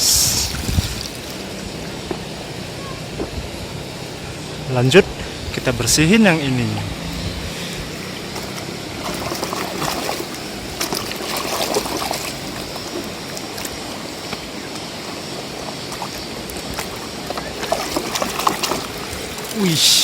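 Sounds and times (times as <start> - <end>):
water running and splashing: 0.0 - 4.7, 6.6 - 20.0.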